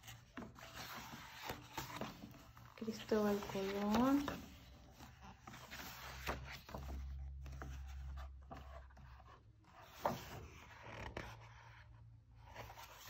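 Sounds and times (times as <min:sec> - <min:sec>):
book pages turning: 0:00.0 - 0:13.0.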